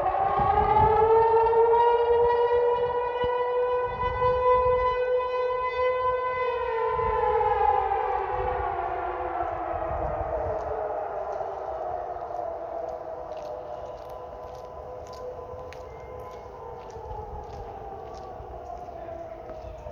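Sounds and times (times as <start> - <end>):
warning siren wailing: 0.0 - 19.9.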